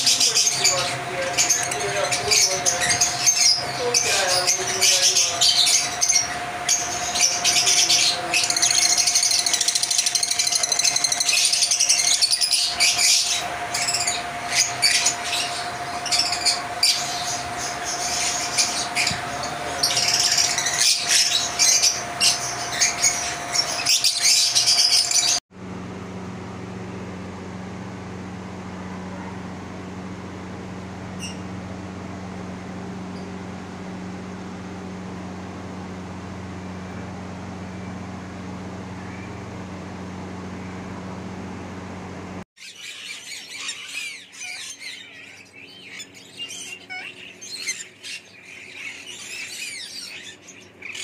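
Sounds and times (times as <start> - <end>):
lovebirds chattering: 0.0 - 25.4, 30.7 - 51.0
low steady hum: 0.0 - 42.5.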